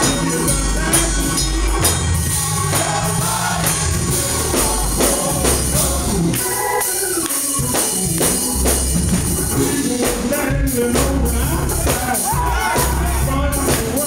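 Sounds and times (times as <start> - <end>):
deep bass line: 0.0 - 6.4, 7.6 - 14.0
drums: 0.0 - 14.0
lead soloist singing: 0.0 - 14.0
male gospel chorus singing: 0.0 - 14.0.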